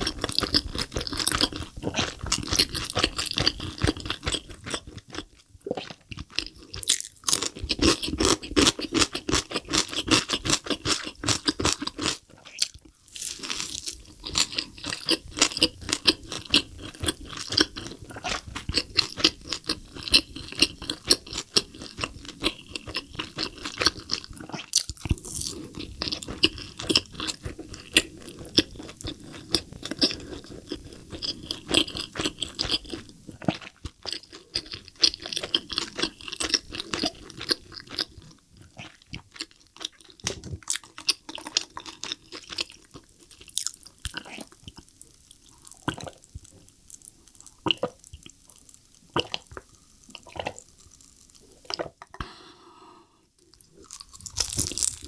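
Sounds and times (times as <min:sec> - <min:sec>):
chewing and crunching fried chicken: 0:00.0 - 0:52.4, 0:53.4 - 0:55.0.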